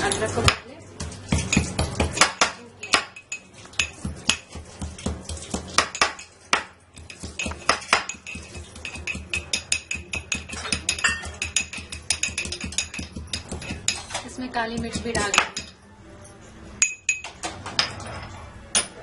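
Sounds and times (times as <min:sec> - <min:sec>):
metal utensils clinking: 0:00.0 - 0:19.0.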